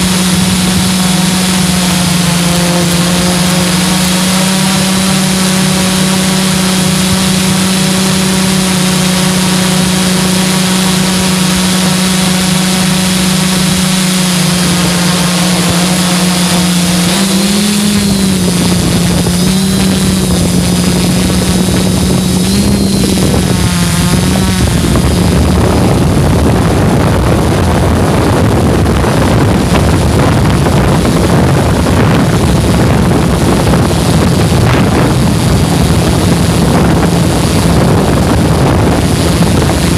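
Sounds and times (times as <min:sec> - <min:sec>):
drone propellers droning: 0:00.0 - 0:39.9
wind noise on microphone: 0:00.0 - 0:39.9.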